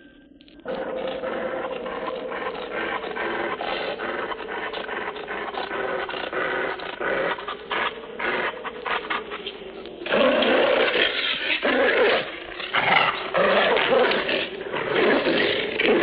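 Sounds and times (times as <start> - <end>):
beast growling and snarling: 0.6 - 16.0.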